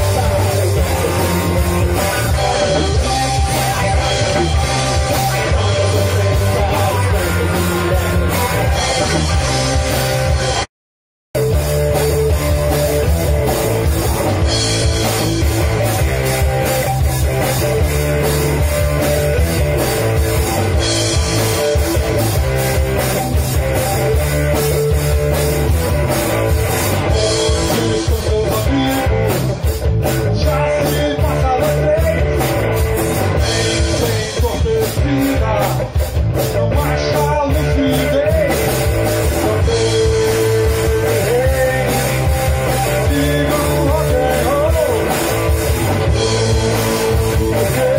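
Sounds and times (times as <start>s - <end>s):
bass guitar: 0.0s - 10.7s, 11.3s - 47.9s
drum kit: 0.0s - 10.7s, 11.4s - 47.9s
electric guitar: 0.0s - 10.7s, 11.4s - 47.9s.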